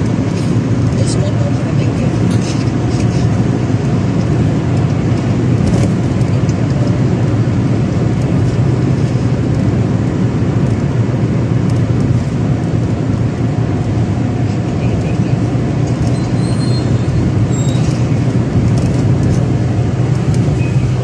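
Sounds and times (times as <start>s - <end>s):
car interior highway drone: 0.0s - 21.0s.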